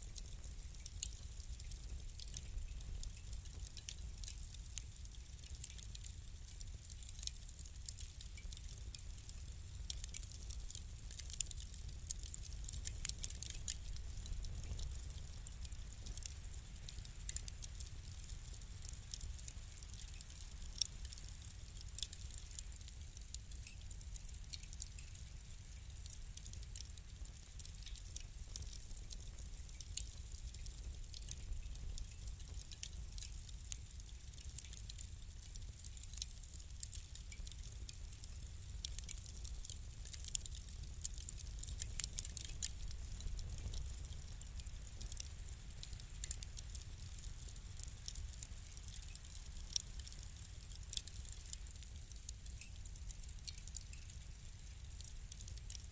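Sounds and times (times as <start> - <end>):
fire low rumble: 0.0 - 55.9
wood fire crackling: 0.0 - 55.9.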